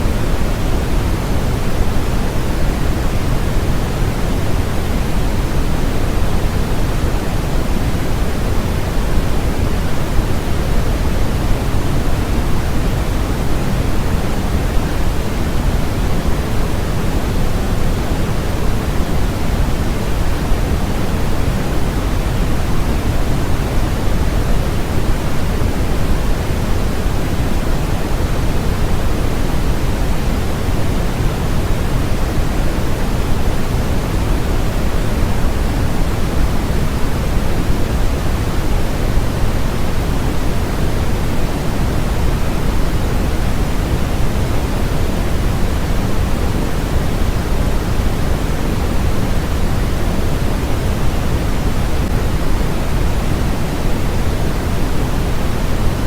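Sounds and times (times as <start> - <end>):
steady low-weighted noise hiss: 0.0 - 56.0.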